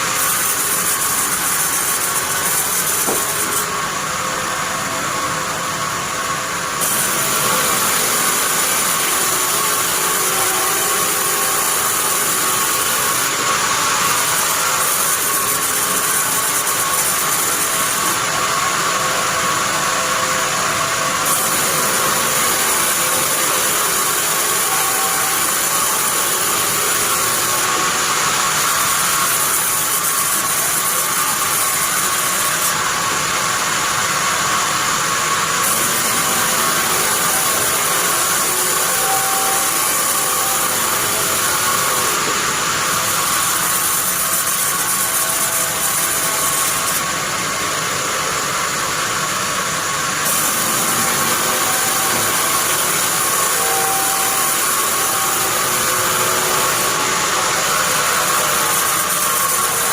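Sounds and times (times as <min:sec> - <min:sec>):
band saw hiss and whine: 0:00.0 - 0:59.9.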